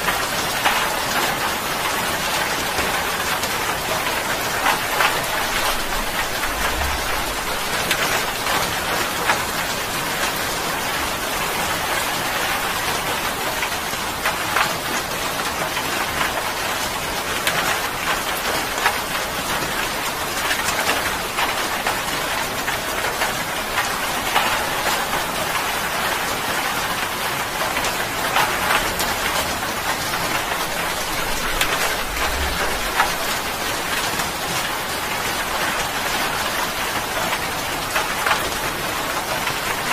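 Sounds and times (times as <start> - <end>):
heavy rain on wet surface: 0.0 - 39.9.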